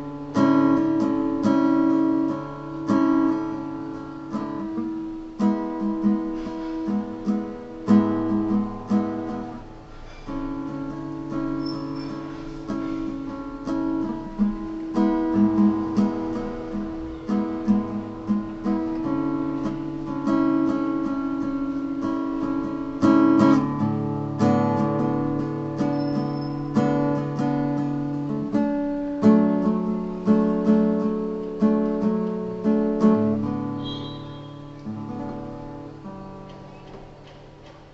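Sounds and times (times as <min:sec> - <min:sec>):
plucked string instrument: 0:00.0 - 0:37.9.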